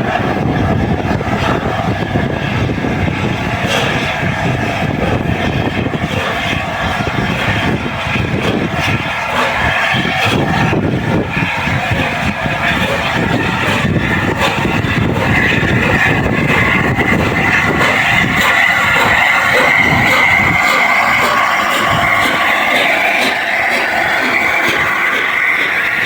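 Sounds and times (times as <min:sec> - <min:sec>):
locomotive rumble: 0:00.0 - 0:26.0.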